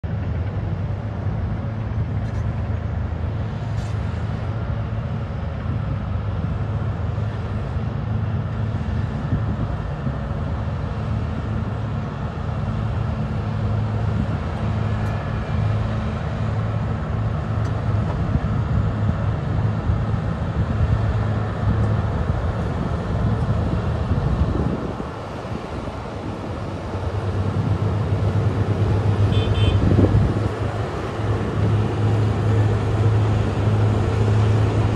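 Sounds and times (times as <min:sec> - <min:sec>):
diesel engines running: 0:00.0 - 0:34.9.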